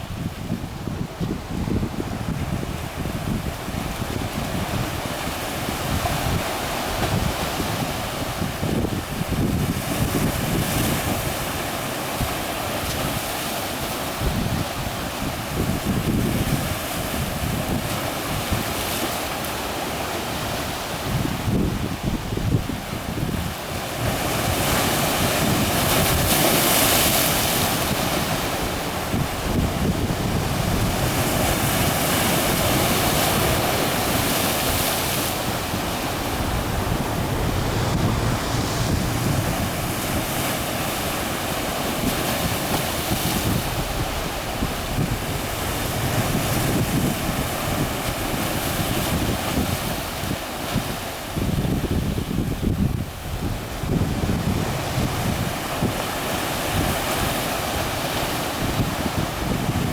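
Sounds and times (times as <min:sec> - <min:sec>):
wind buffeting microphone: 0:00.0 - 0:13.3, 0:14.1 - 0:19.0, 0:20.3 - 0:59.9
waves washing against concrete: 0:00.0 - 0:59.9.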